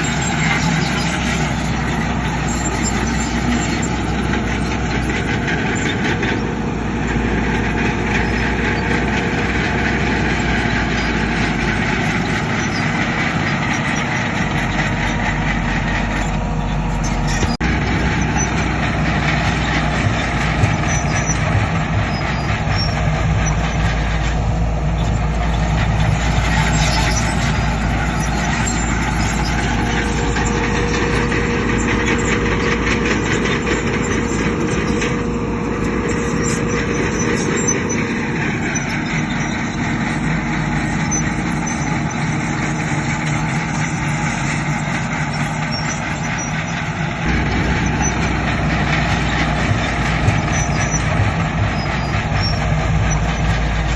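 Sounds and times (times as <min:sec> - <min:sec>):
heavy machinery diesel engines: 0:00.0 - 0:53.9.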